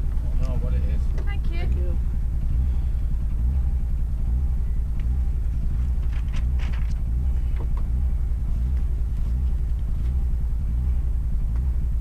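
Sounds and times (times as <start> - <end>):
car engine rumble in cabin: 0.0 - 12.0
faint rattles: 0.0 - 12.0.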